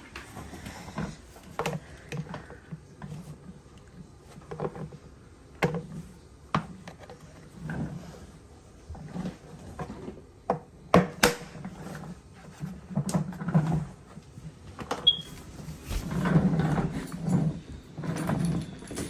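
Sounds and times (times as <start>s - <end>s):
rustling and scraping: 0.0s - 10.8s, 11.5s - 19.0s.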